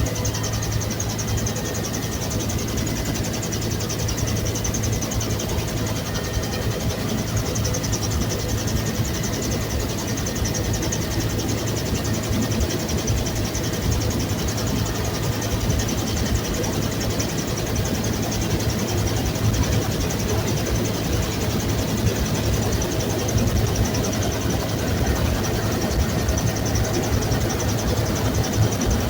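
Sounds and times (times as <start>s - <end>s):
helicopter turbine drone: 0.0s - 29.0s.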